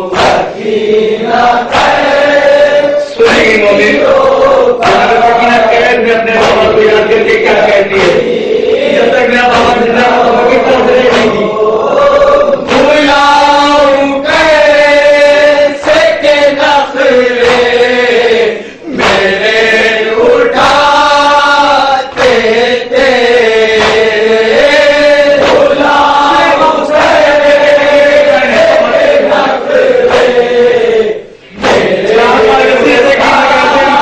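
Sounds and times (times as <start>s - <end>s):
men chanting a lament: 0.0s - 34.0s.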